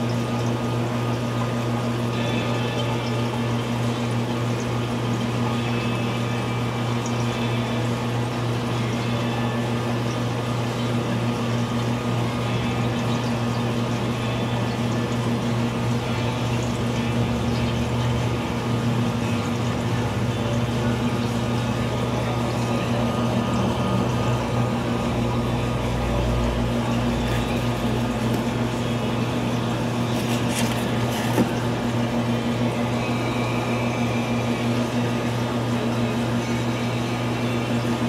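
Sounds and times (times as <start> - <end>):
aquarium pumps humming: 0.0 - 38.0
circulating water: 0.0 - 38.0.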